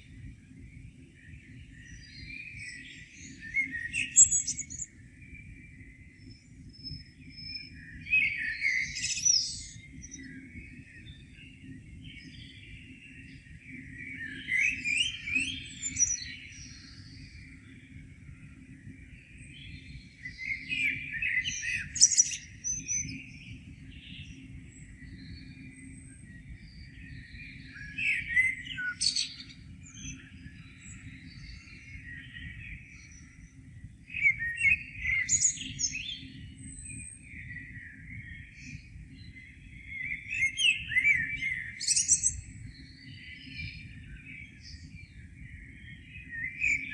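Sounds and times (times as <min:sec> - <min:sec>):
faint bird chirps: 0:00.0 - 0:46.9
songbird singing: 0:00.0 - 0:46.9.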